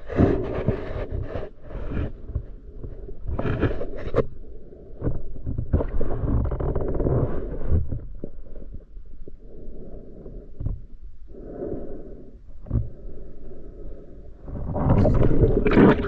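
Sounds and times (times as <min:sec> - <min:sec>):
muffled water gurgling and sloshing: 0:00.0 - 0:16.0.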